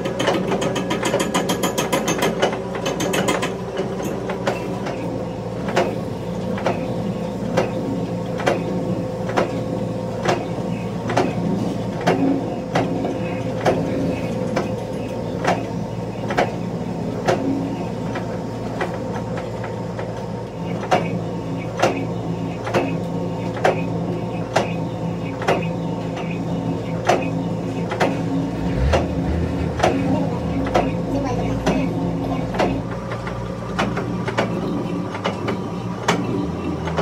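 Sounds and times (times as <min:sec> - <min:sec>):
lathe motor and gearbox hum: 0:00.0 - 0:37.0.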